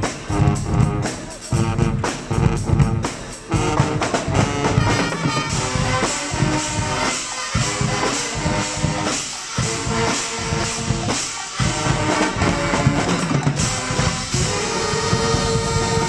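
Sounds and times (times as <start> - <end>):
brass and drum band playing: 0.0 - 16.0.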